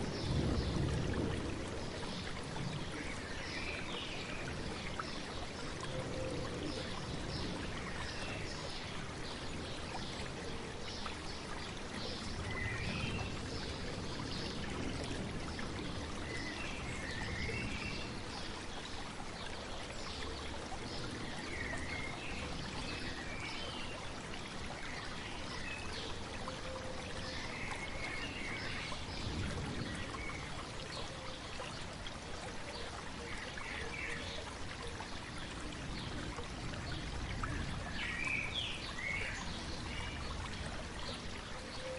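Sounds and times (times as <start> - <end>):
stream babbling: 0.0 - 41.9.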